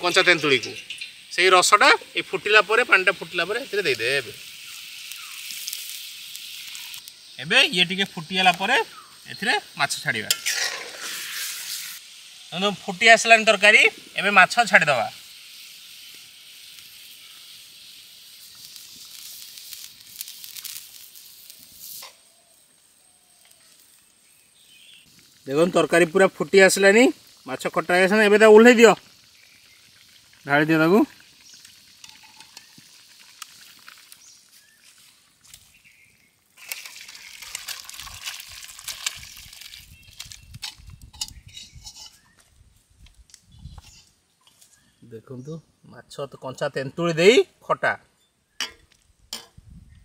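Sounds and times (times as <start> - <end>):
curry boiling and sizzling: 0.0 - 45.0.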